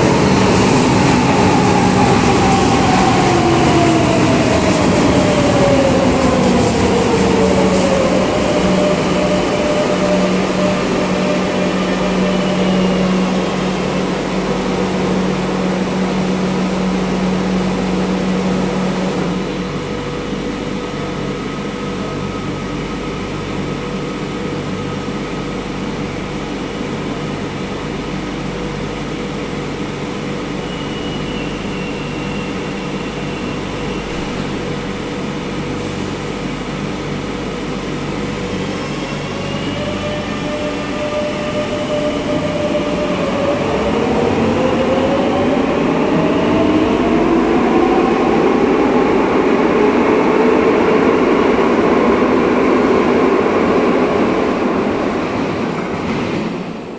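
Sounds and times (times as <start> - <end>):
train pulling in with drive hum: 0.0 - 56.9.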